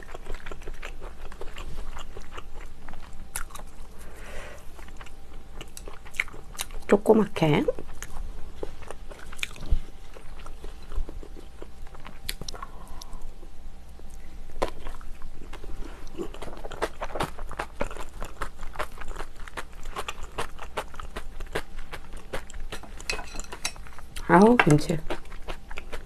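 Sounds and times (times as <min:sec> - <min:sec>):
person chewing food: 0:00.0 - 0:06.9, 0:07.7 - 0:24.3, 0:24.9 - 0:26.0.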